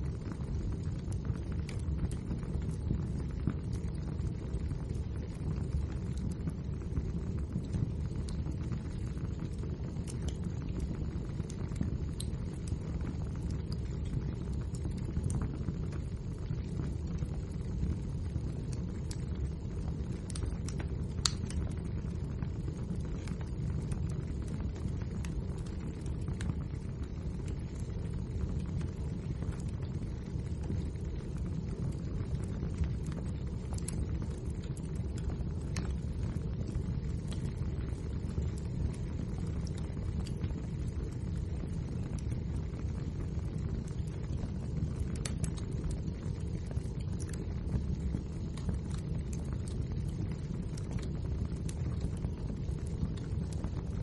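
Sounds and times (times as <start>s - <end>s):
fire flames rumbling: 0.0s - 54.0s
logs crackling and popping: 0.0s - 54.0s.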